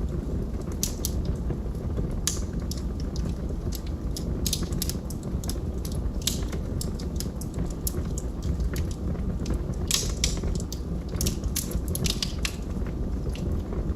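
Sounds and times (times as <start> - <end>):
burning wood popping: 0.0 - 13.9
log fire crackling: 0.0 - 13.9.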